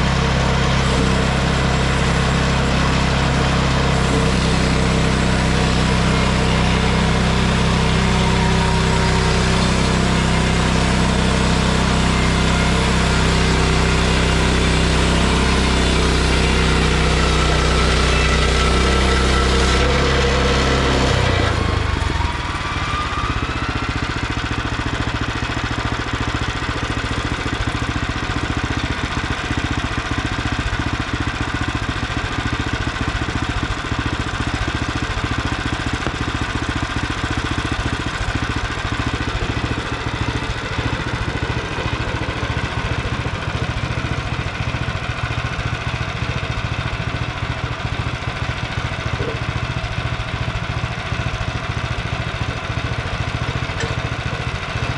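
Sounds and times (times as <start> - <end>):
small gasoline engine idling: 0.0 - 54.9.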